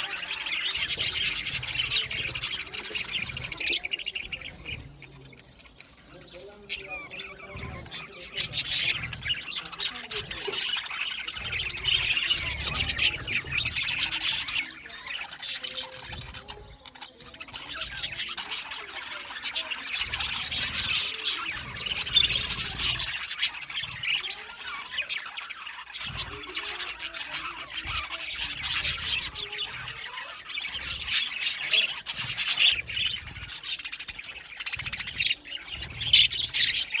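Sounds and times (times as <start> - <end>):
budgerigars chattering and squawking: 0.0 - 37.0.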